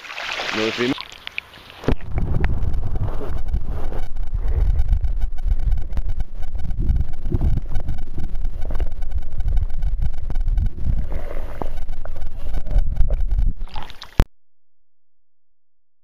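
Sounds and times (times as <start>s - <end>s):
underwater river current rumble: 0.0s - 14.2s.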